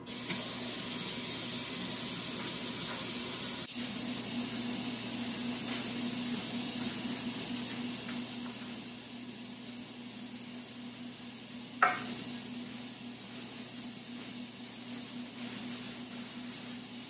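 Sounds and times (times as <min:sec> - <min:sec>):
water running into a steel sink: 0:00.0 - 0:17.0.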